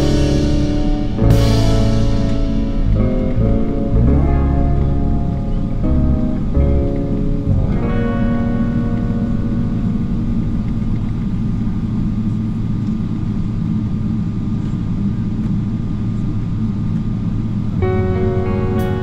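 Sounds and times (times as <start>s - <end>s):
airplane cabin low rumble: 0.0s - 19.0s
faint steady whine: 0.0s - 19.0s.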